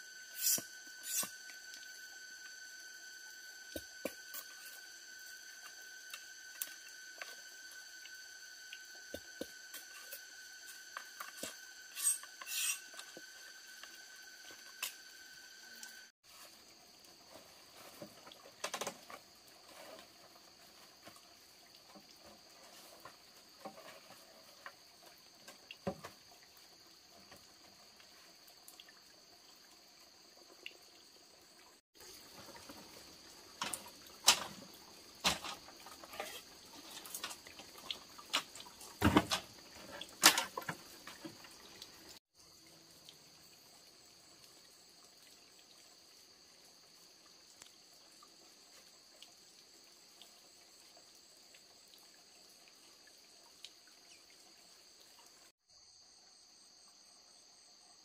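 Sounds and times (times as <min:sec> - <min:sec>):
high-pitched insect chorus: 0:00.0 - 0:58.0
water splashing and trickling: 0:00.3 - 0:55.6.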